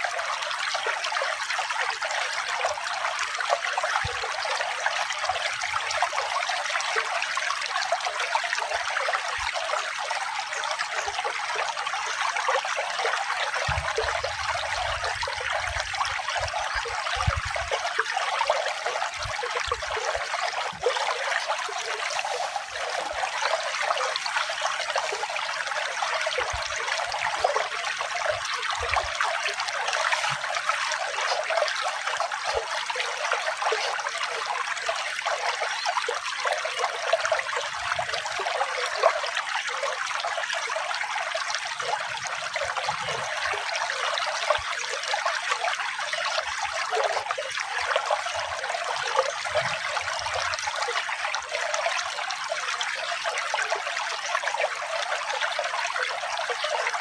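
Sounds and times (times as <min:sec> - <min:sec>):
water trickling: 0:00.1 - 0:57.0.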